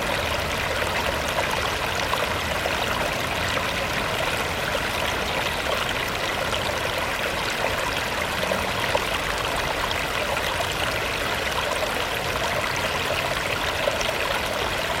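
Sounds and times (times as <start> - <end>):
river babbling over rocks: 0.0 - 15.0.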